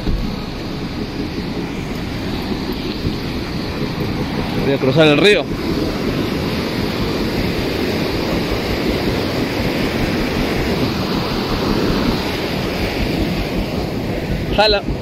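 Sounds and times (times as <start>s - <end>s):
river rushing in white water: 0.0s - 15.0s.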